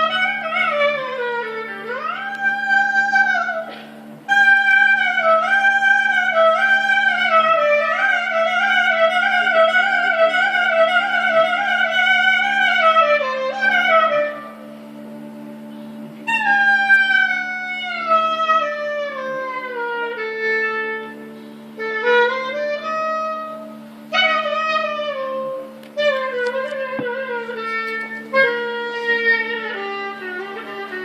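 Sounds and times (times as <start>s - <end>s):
woodwind melody: 0.0s - 31.0s.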